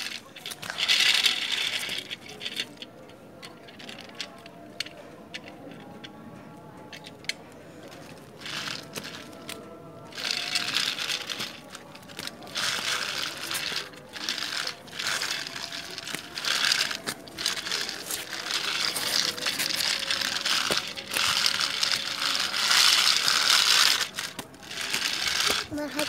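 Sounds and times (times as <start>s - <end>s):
toy train rattling on concrete: 0.0s - 26.0s.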